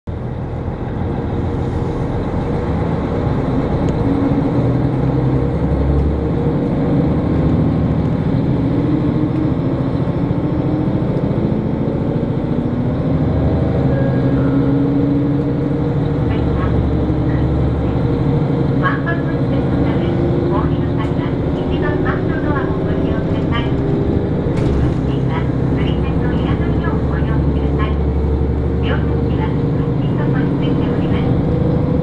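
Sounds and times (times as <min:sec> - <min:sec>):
railcar diesel engine droning: 0:00.1 - 0:32.0.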